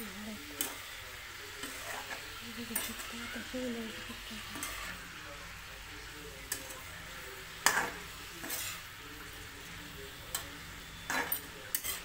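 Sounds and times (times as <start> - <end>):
faint sizzle: 0.0 - 12.0
spatula scraping a wok: 0.1 - 12.0.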